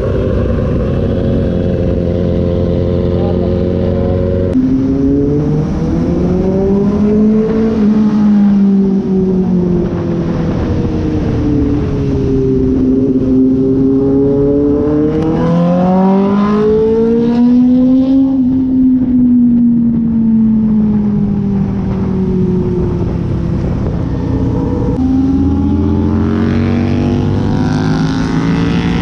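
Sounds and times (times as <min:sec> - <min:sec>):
motorcycle engine revving: 0:00.0 - 0:19.1, 0:21.0 - 0:29.0.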